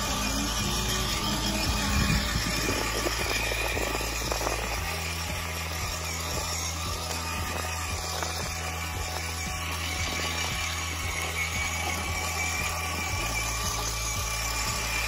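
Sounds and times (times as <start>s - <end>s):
toy motorcycle motor hum: 0.0s - 15.0s.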